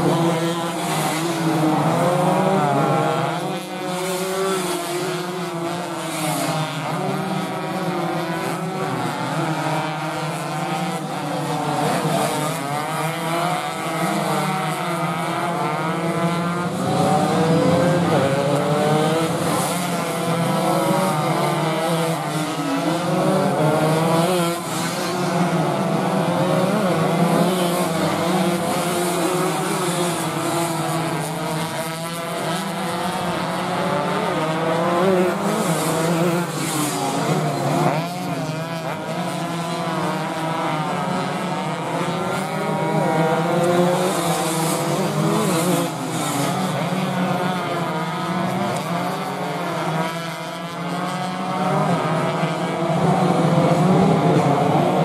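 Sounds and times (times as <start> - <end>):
motorcycles revving hard: 0.0 - 55.0.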